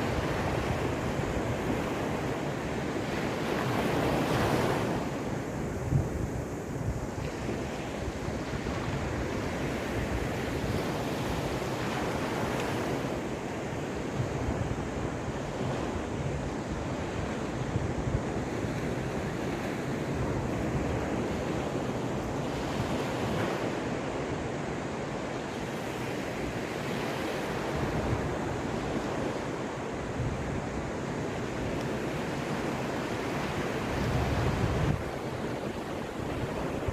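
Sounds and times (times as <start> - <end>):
waves breaking and washing up: 0.0 - 36.9
wind rumbling on microphone: 0.0 - 36.9.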